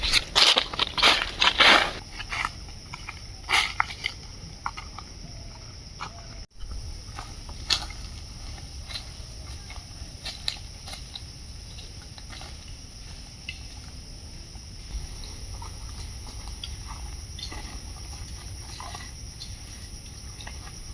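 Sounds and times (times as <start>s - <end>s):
high insect drone: 0.0s - 20.9s.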